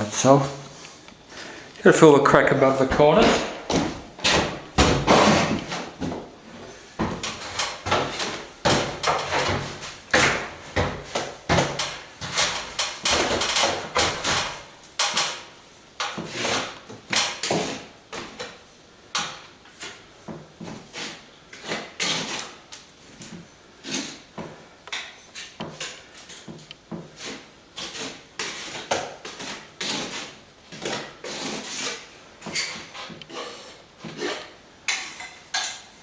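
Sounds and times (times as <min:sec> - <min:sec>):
plastering tool scraping wall: 0:02.0 - 0:18.6, 0:19.2 - 0:36.0.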